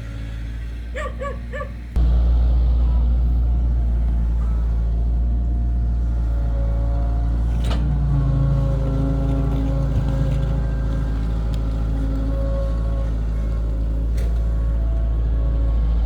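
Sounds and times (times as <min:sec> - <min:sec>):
diesel machinery engine rumbling: 0:00.0 - 0:16.0
droning engine tone under load: 0:00.0 - 0:16.0.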